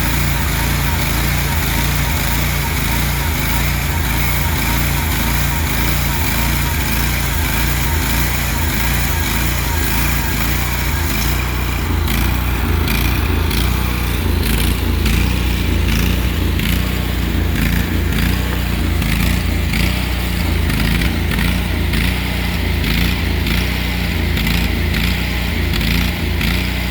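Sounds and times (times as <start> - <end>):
bandsaw machine drone: 0.0 - 26.9.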